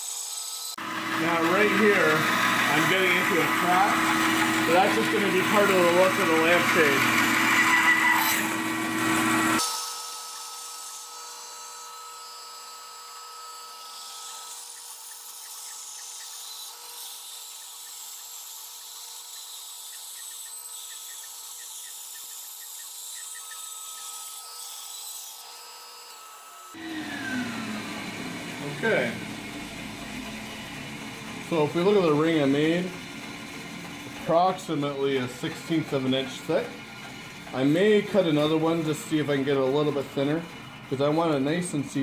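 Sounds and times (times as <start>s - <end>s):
bandsaw cutting wood: 0.0s - 42.0s.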